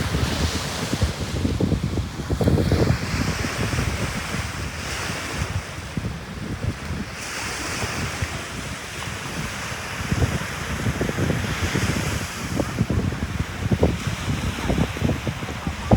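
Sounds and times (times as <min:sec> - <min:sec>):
ocean surf washing ashore: 0:00.0 - 0:15.9
wind buffeting microphone: 0:00.0 - 0:15.9.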